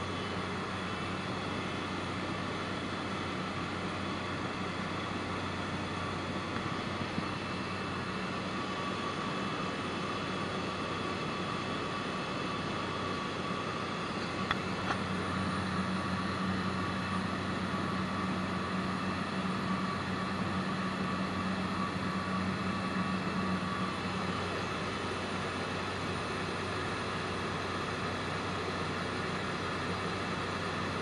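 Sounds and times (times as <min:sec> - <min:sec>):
plane engine and propeller drone: 0:00.0 - 0:31.0.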